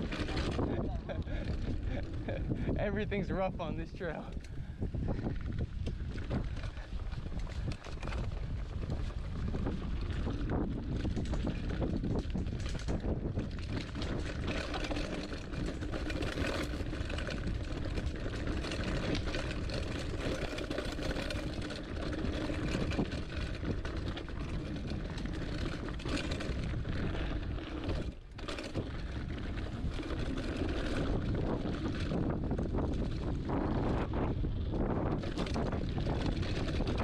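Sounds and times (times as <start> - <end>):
bike tyre rumble: 0.0 - 37.0
wind buffeting microphone: 0.0 - 37.0
bike clattering: 4.2 - 37.0.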